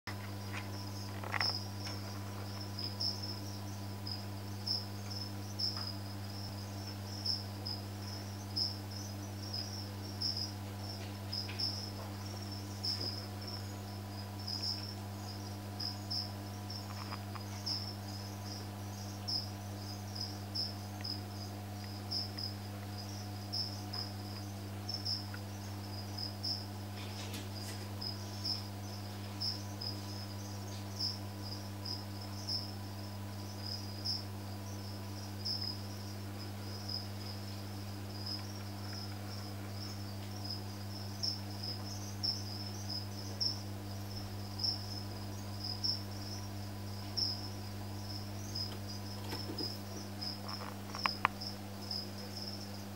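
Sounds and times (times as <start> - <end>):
cricket chirping: 0.1 - 52.9
steady low hum: 0.1 - 52.9.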